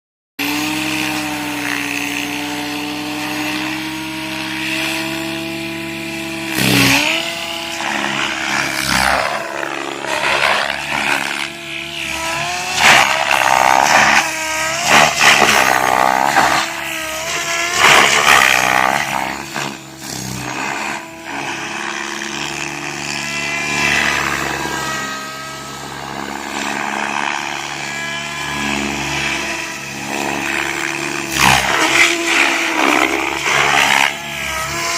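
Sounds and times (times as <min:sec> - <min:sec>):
rc helicopter motor whine: 0:00.4 - 0:34.9
rotor blade whoosh: 0:06.5 - 0:34.9.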